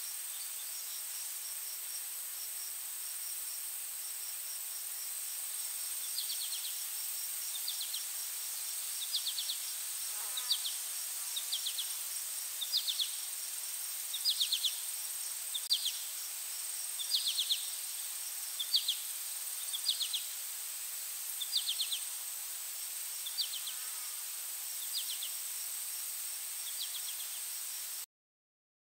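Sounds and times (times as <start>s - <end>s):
insects high-pitched drone: 0.0s - 27.9s
insect chirps: 0.0s - 28.1s.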